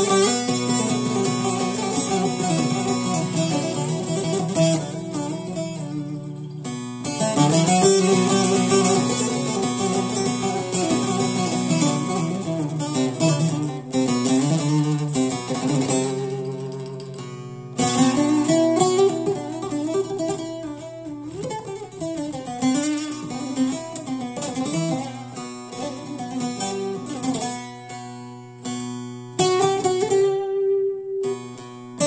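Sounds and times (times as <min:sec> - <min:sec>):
plucked long-necked lute: 0:00.0 - 0:32.0.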